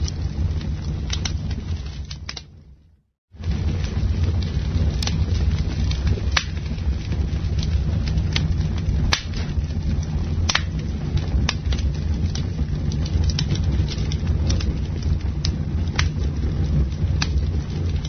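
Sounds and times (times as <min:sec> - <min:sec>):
campfire low rumble: 0:00.0 - 0:18.0
wood crackling pops: 0:00.0 - 0:18.0.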